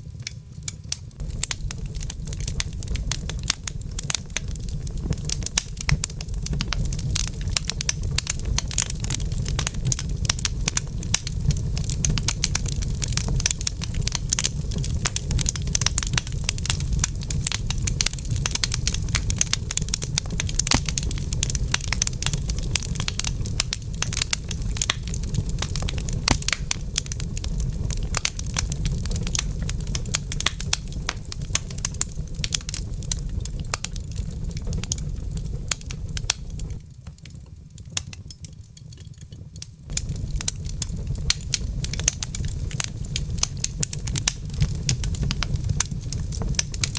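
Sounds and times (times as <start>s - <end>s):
fire crackling in a fireplace: 0.0s - 46.9s
low fire rumble: 0.0s - 46.9s.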